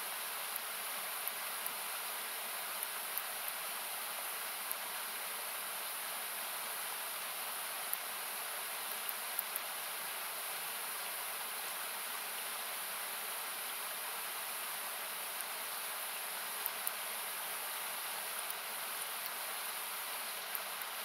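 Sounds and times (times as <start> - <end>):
faint campfire crackles: 0.0 - 21.0
river rushing hiss: 0.0 - 21.0.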